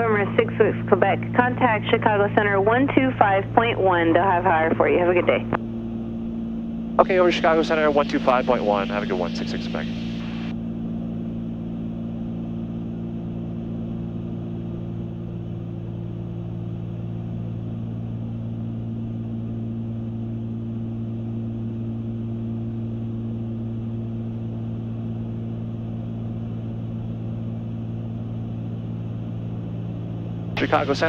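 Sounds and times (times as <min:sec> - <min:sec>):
airplane engines droning: 0:00.0 - 0:31.0.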